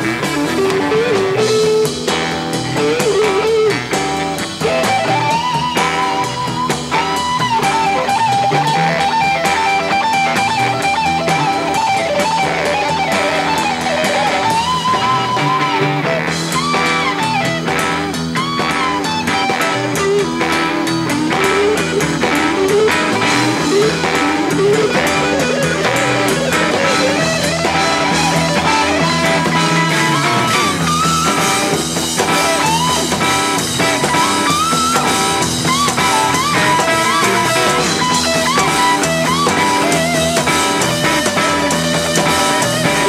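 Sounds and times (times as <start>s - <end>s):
bass and drums: 0.0s - 43.0s
electric lead guitar: 0.0s - 43.0s.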